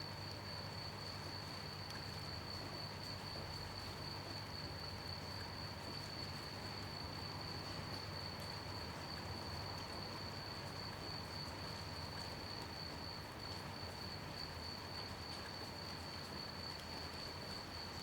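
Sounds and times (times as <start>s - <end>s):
crickets chirping: 0.0s - 18.0s
gentle rain hiss: 0.0s - 18.0s.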